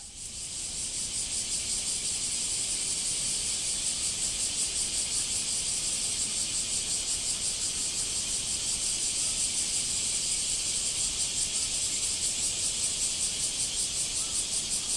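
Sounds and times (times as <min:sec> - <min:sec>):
cicadas singing in chorus: 0:00.0 - 0:14.9.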